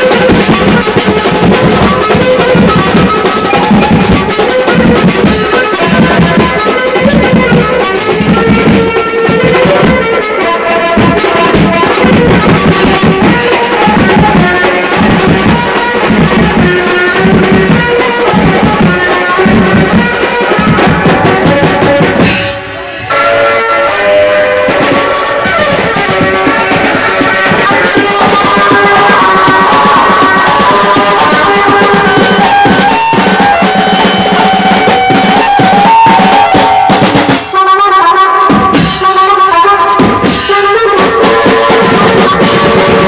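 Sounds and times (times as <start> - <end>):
large drums beaten with sticks: 0.0 - 22.8, 24.0 - 37.7, 38.5 - 43.0
repeating melody line: 0.0 - 37.3
street band playing: 0.0 - 43.0.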